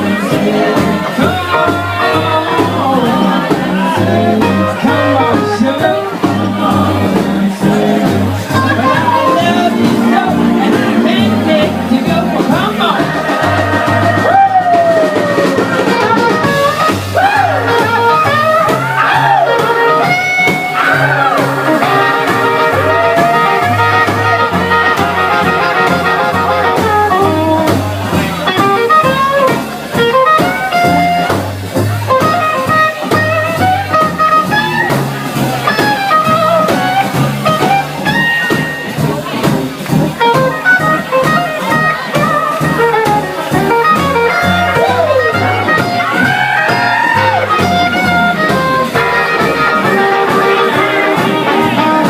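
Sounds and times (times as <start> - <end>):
bass line: 0.0 - 52.0
drums: 0.0 - 52.0
pitch-bending lead line: 0.0 - 52.0.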